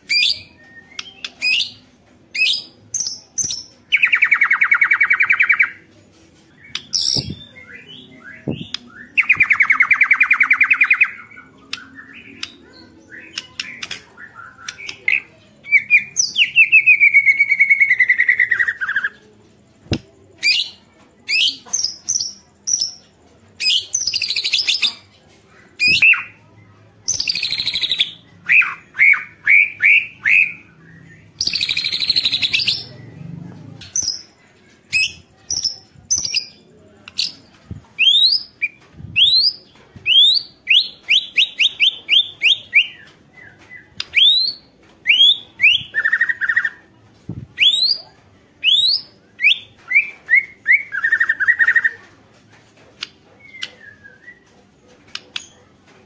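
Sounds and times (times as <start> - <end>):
songbird singing: 0.0 - 5.9, 6.6 - 19.3, 25.8 - 52.0.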